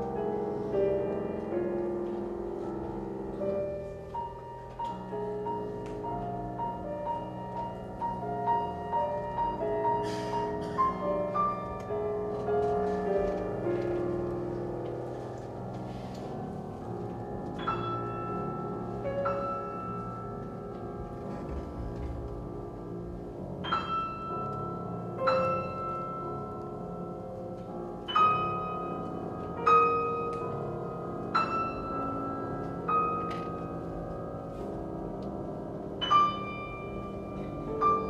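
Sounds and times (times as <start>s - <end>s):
piano high notes: 0.0s - 38.0s.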